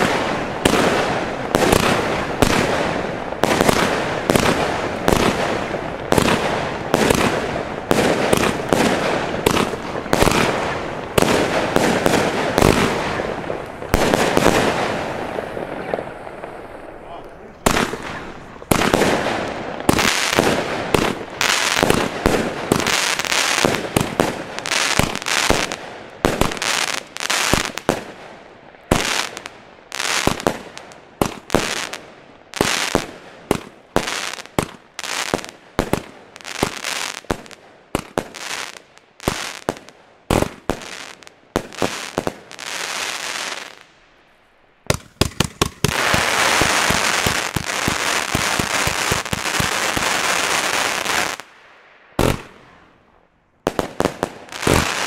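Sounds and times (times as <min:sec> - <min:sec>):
firework bangs: 0:00.0 - 0:44.0, 0:44.8 - 0:51.5, 0:52.1 - 0:53.0, 0:53.6 - 0:55.0
firework crackling: 0:00.0 - 0:44.2, 0:44.8 - 0:53.0, 0:53.7 - 0:55.0.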